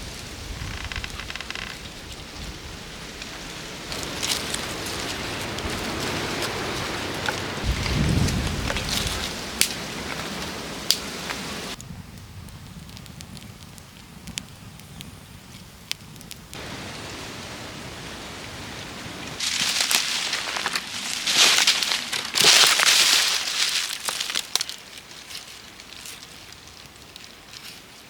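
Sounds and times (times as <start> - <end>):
rain falling: 0.0 - 11.8, 16.6 - 27.5
loud crackling rustle: 0.0 - 28.0.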